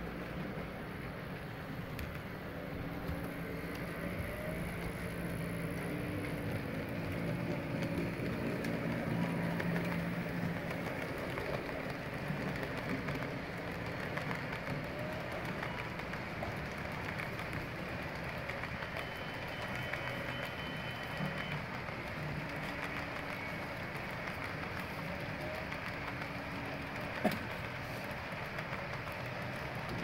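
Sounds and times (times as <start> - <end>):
model train rumbling on rails: 0.0 - 30.0.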